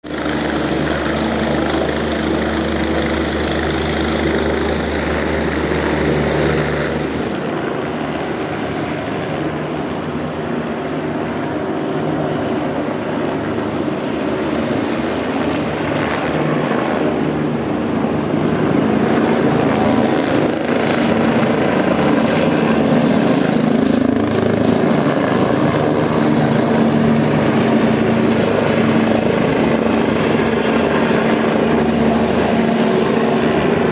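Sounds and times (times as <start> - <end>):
helicopter rotor and engine drone: 0.0 - 33.9.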